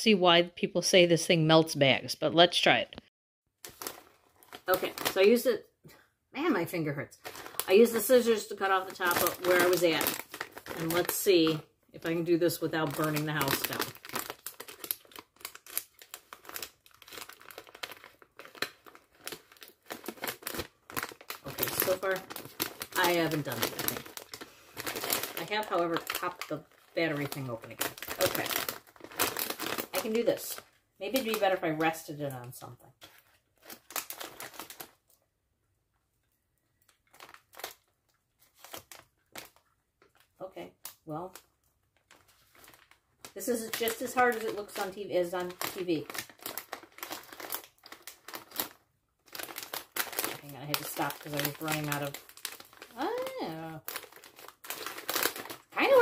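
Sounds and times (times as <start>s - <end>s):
plastic bag crinkling: 3.6s - 5.6s, 6.8s - 35.3s, 36.7s - 56.0s.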